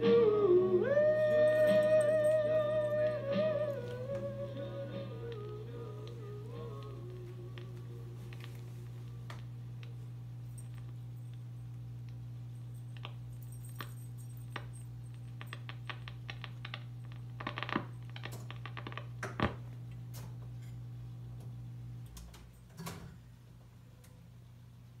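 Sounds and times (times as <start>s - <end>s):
jukebox electrical hum: 0.0s - 25.0s.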